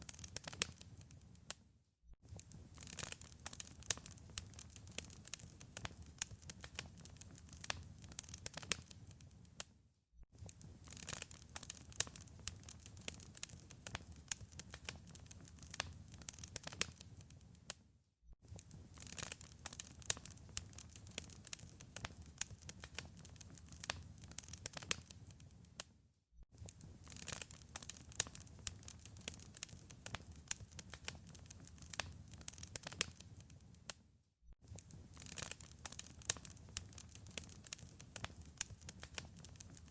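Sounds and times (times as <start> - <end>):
wood fire crackling and popping: 0.0 - 1.5, 2.3 - 9.7, 10.4 - 17.8, 18.5 - 25.9, 26.6 - 34.0, 34.6 - 39.9.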